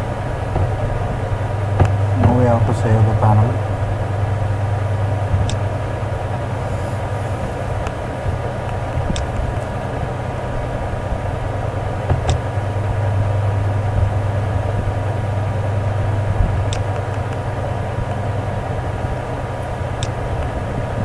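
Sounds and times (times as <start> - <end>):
constant hiss: 0.0 - 21.0
faint steady tones: 0.0 - 21.0
low electrical hum: 0.0 - 21.0.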